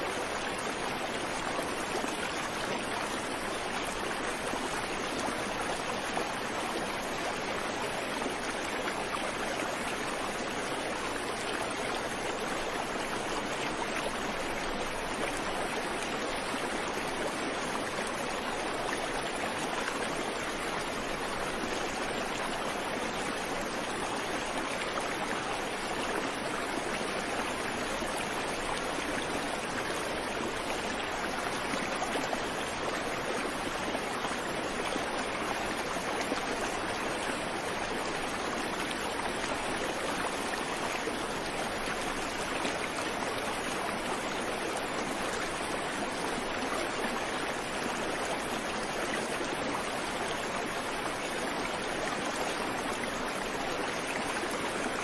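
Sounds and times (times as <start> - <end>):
creek water flowing over rocks: 0.0 - 55.0.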